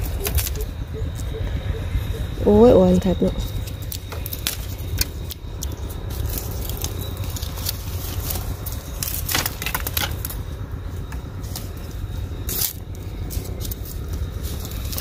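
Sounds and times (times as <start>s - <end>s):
dry bamboo crackling and snapping: 0.0s - 1.2s, 3.4s - 15.0s
steady low rumble: 0.0s - 15.0s.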